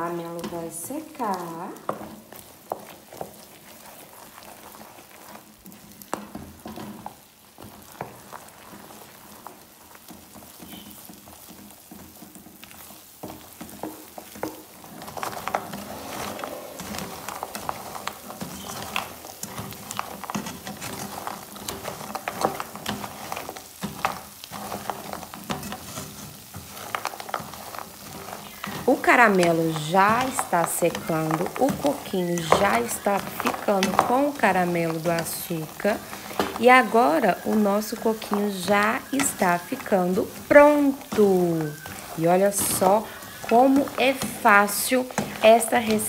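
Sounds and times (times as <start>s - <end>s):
faint sizzle: 0.0s - 46.0s
spoon scraping frying pan: 0.1s - 46.0s.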